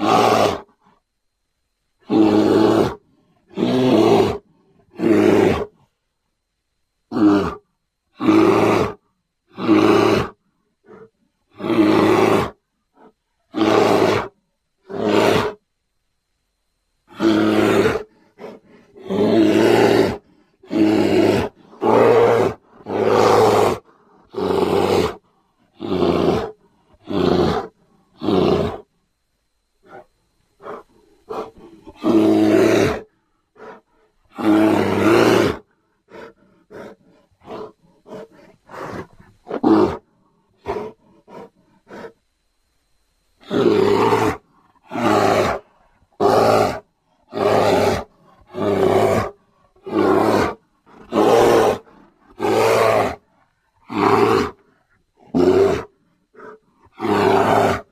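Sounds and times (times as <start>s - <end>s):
bear grunting: 0.0s - 0.7s, 2.0s - 5.8s, 7.1s - 15.6s, 17.1s - 28.9s, 29.8s - 42.2s, 43.4s - 57.9s
bear roaring and growling: 0.0s - 0.7s, 2.0s - 5.8s, 7.1s - 7.6s, 8.2s - 15.6s, 17.1s - 28.9s, 29.8s - 42.2s, 43.4s - 57.9s.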